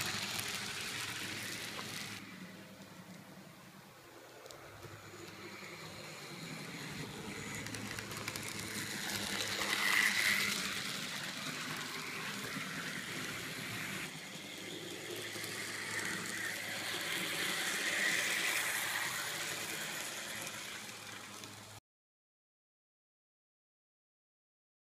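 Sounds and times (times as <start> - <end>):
model train whirring and clicking: 0.0 - 21.8.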